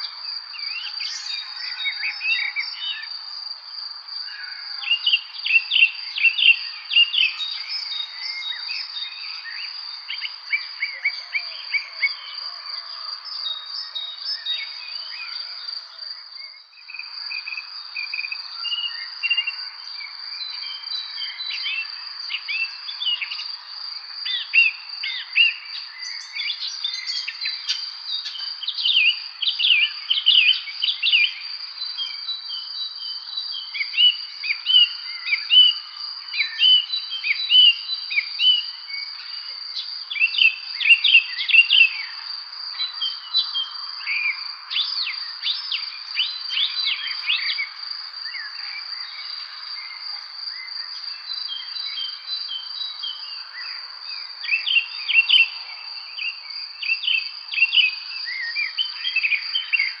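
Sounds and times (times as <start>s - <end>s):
songbirds chirping: 0.0s - 60.0s.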